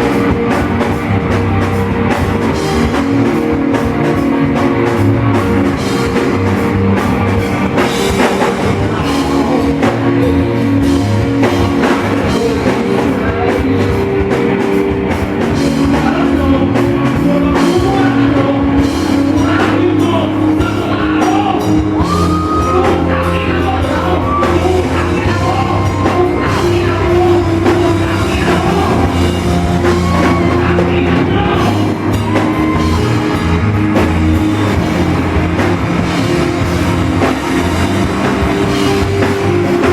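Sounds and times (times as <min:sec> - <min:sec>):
drum kit: 0:00.0 - 0:39.9
rock band playing: 0:00.0 - 0:39.9
person singing: 0:01.9 - 0:35.4.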